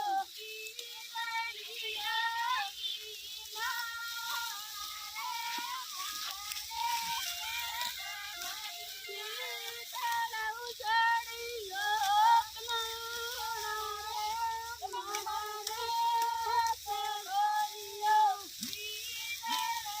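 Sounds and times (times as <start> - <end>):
women singing unaccompanied: 0.0 - 20.0.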